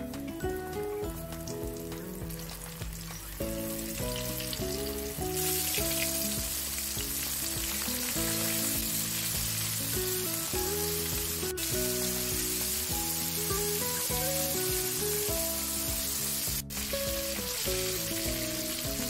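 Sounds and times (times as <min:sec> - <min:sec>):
light background music: 0:00.0 - 0:19.0
chicken frying in hot oil: 0:00.2 - 0:19.0.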